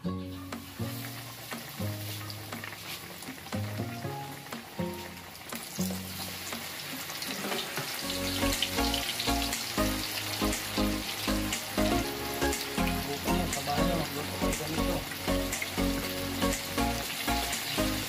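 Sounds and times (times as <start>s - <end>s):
background music with beat: 0.0s - 7.0s, 7.9s - 18.0s
chicken deep-frying in oil: 0.0s - 18.0s.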